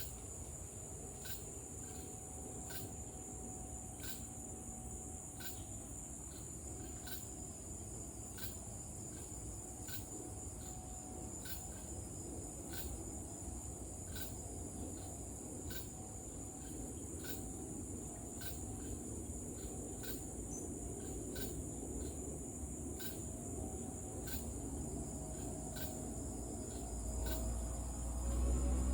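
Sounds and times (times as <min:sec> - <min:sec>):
crickets and cicadas droning: 0:00.0 - 0:28.9.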